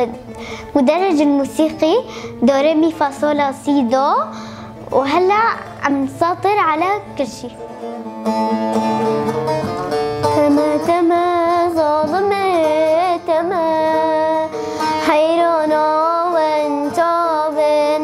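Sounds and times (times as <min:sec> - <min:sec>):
plucked long-necked lute: 0:00.0 - 0:02.6, 0:04.6 - 0:18.0
girl singing with vibrato: 0:00.0 - 0:07.6, 0:10.2 - 0:18.0.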